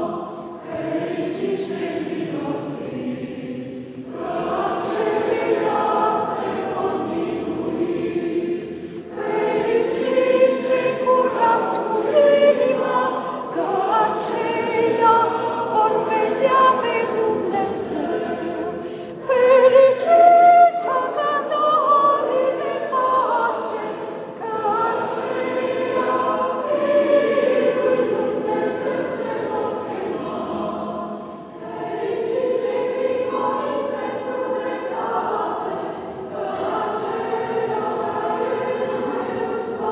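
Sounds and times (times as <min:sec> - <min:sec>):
church choir chanting: 0:00.0 - 0:39.9.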